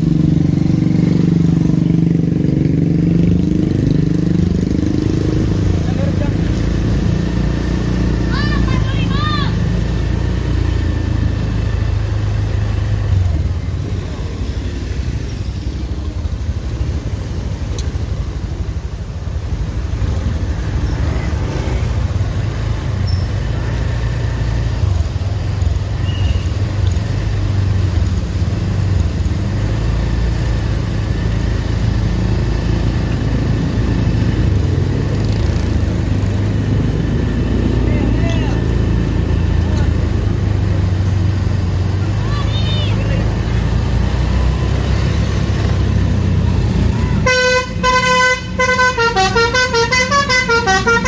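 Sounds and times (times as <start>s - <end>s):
low rumble of road vehicles: 0.0s - 51.0s.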